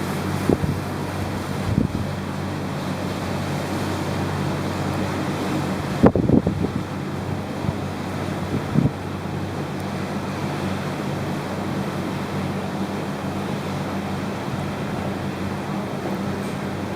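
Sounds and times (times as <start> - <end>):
ship low hum: 0.0 - 16.9
wind rushing over microphone: 0.0 - 16.9.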